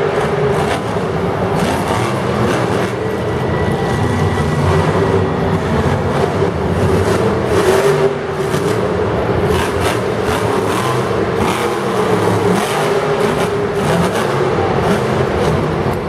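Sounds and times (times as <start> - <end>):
truck engine revving loudly: 0.0 - 16.0.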